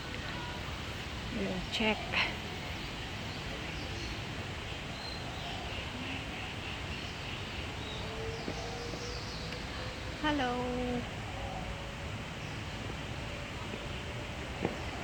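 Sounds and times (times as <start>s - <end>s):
birds chirping faintly: 0.0s - 15.0s
outdoor background hiss: 0.0s - 15.0s.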